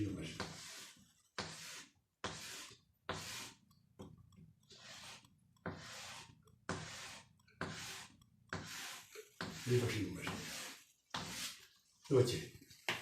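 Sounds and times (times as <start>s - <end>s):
writing tool scratching on surface: 0.0s - 11.9s.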